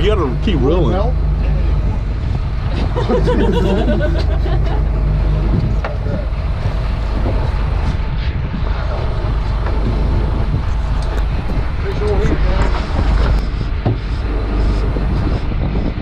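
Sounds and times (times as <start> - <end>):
boat engine droning: 0.0 - 16.0
water noise: 0.0 - 16.0
wind noise: 0.0 - 16.0.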